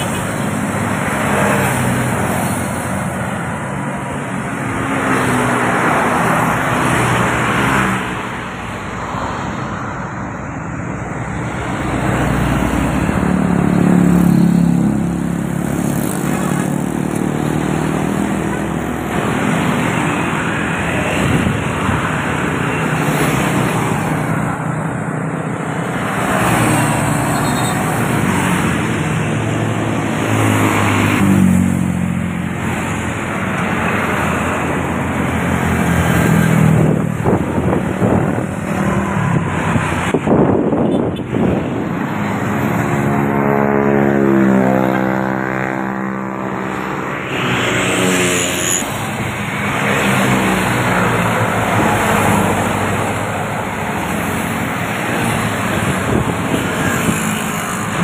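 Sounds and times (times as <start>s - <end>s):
highway traffic passing: 0.0s - 58.0s.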